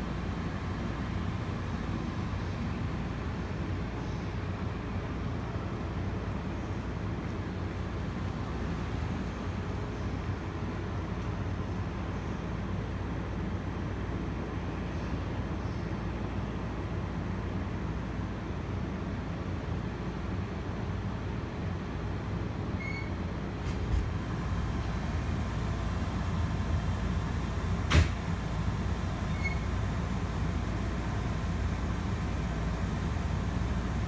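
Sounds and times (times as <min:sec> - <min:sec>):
railway station background rumble: 0:00.0 - 0:34.0.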